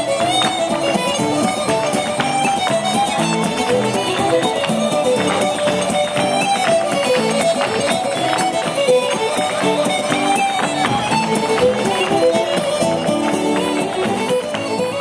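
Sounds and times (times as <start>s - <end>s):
band playing traditional music: 0.0s - 15.0s.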